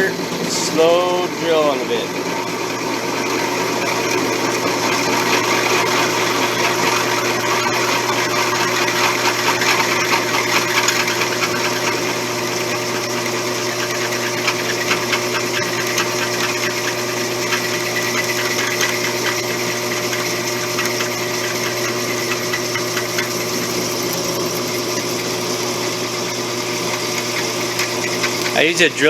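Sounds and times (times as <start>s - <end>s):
electric motor humming: 0.0s - 29.0s.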